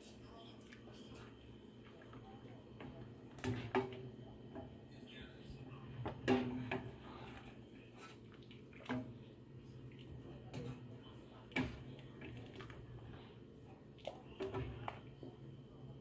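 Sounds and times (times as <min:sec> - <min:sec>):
faint water sounds: 0:00.0 - 0:16.0.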